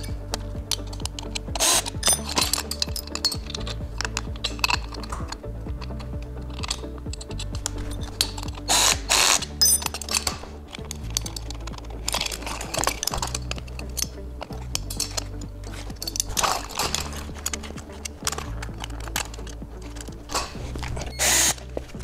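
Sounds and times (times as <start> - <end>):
background music: 0.0 - 22.0
metal legs clinking: 0.0 - 22.0
ratchet wrench clicking: 0.7 - 21.6.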